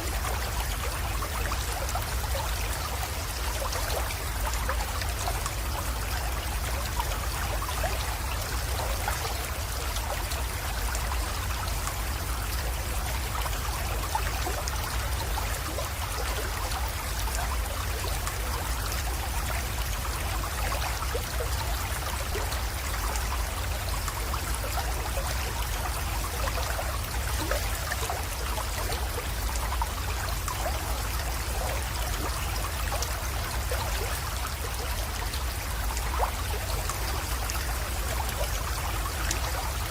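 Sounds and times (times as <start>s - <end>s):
creek water babbling: 0.0s - 39.9s.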